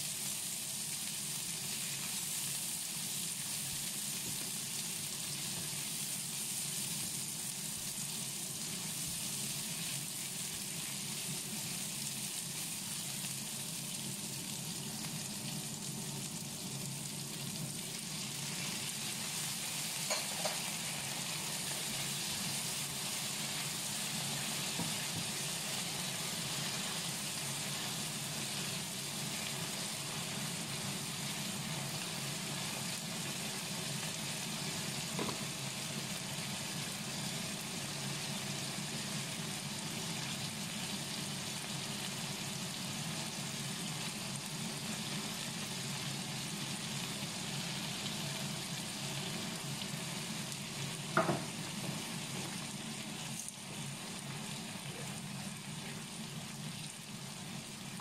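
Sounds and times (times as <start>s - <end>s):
onions sizzling in oil: 0.0s - 58.0s.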